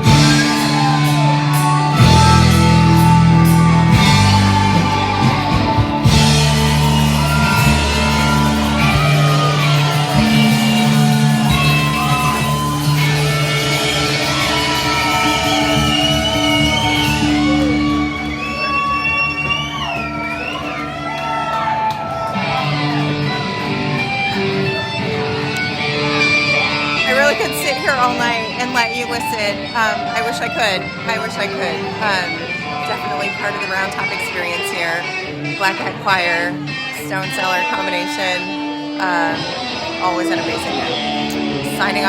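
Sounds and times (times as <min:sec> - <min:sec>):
live rock band playing: 0:00.0 - 0:42.0.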